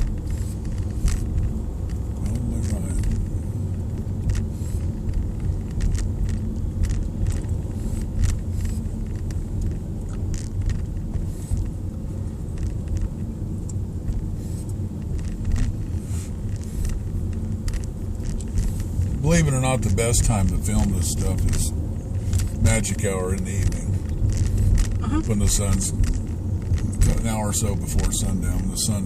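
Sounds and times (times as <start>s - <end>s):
car cabin low rumble: 0.0s - 29.0s
light clicks and rattles: 0.0s - 29.0s.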